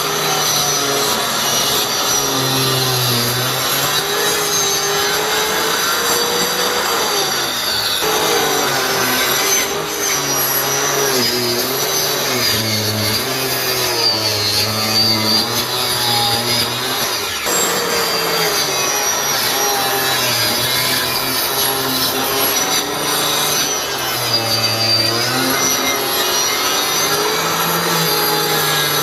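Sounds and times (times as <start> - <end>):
circular saw cutting wood: 0.0 - 29.0.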